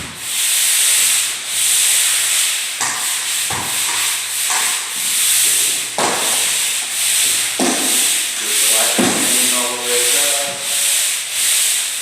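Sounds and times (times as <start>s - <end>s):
sanding pad rubbing on wall: 0.0s - 12.0s.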